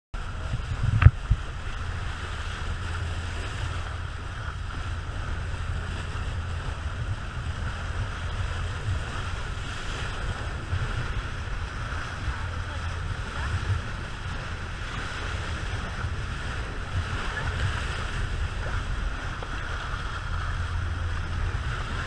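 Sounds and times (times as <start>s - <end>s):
boat engine noise: 0.2s - 22.0s
water rushing along boat hull: 0.2s - 22.0s
wind rumbling on microphone: 0.2s - 22.0s.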